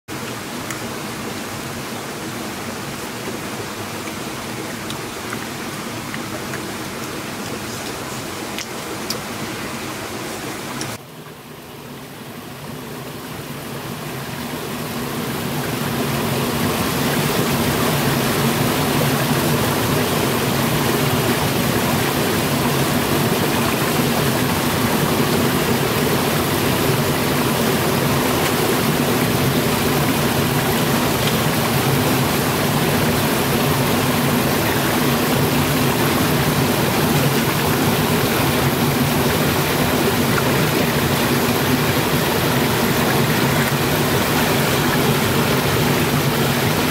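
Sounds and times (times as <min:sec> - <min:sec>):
river rushing over rocks: 0:00.1 - 0:46.9.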